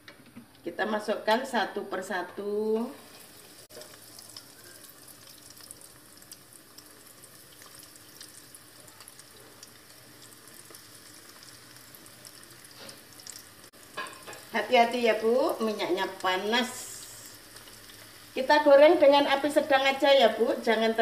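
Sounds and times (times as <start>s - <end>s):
food deep-frying in hot oil: 1.0s - 21.0s.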